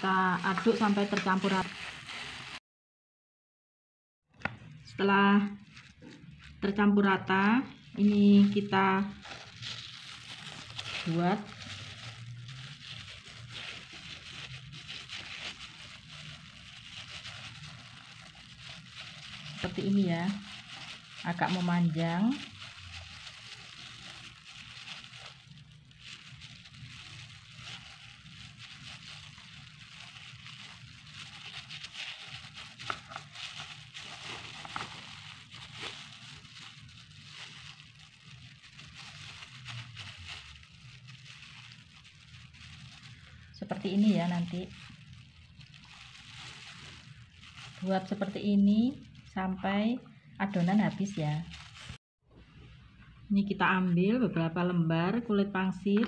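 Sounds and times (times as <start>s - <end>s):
crinkling of plastic glove: 0.0s - 2.6s, 4.3s - 52.0s.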